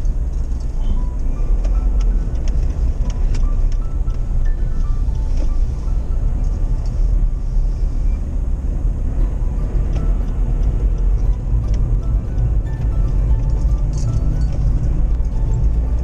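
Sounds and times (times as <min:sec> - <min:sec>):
vehicle rumbling on road: 0:00.0 - 0:16.0.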